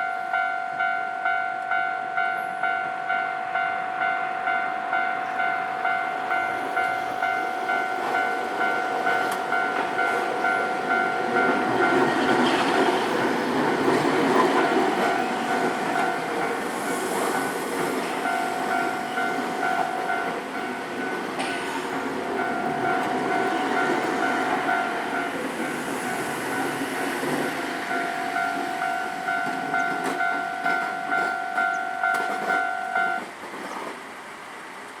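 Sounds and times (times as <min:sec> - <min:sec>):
level crossing alarm ringing: 0:00.0 - 0:33.3
train passing: 0:00.0 - 0:35.0.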